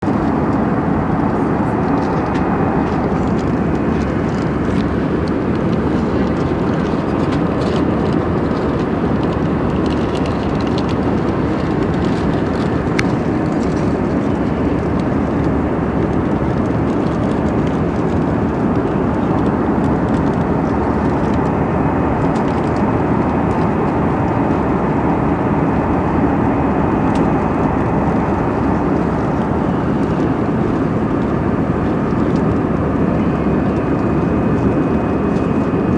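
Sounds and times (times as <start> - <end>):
airplane cabin engine rumble: 0.0 - 35.9.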